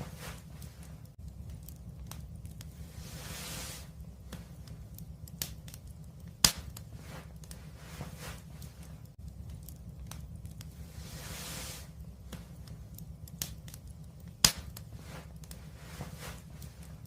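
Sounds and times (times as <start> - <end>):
soft hissing: 0.0 - 17.0
wood fire crackling: 0.0 - 17.0.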